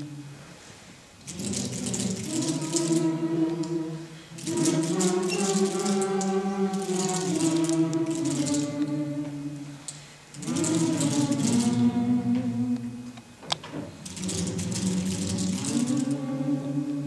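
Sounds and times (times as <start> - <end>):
group singing a cappella: 0.0 - 0.4, 1.2 - 13.3, 14.0 - 17.0.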